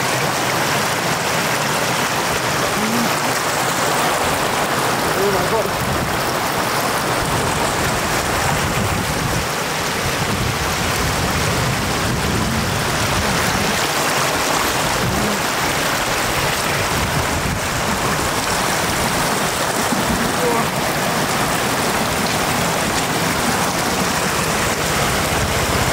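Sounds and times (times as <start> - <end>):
floodwater rushing over road: 0.0 - 25.9.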